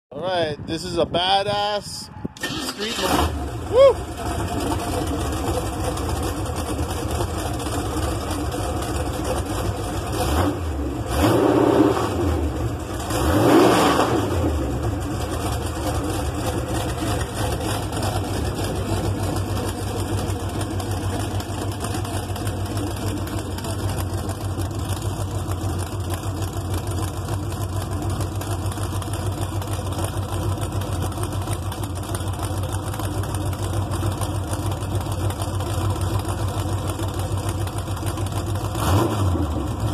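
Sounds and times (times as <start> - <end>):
car engine idling and revving: 2.1 - 39.9.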